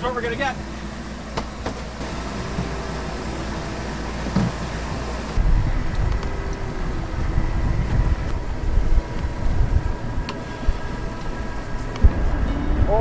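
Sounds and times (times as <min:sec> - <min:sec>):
faint steady hum: 0:00.0 - 0:13.0
wind rumbling on microphone: 0:01.8 - 0:13.0.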